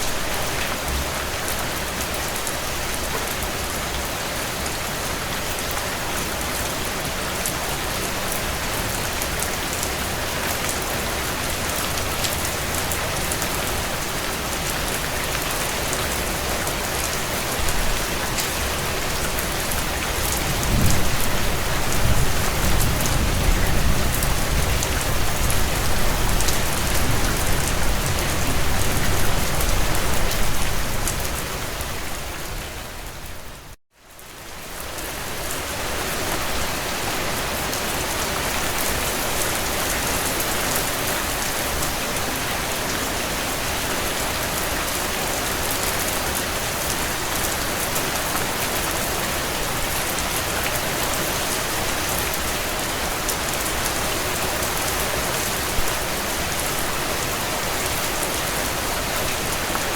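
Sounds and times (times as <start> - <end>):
heavy rain on a tin roof: 0.0 - 59.9.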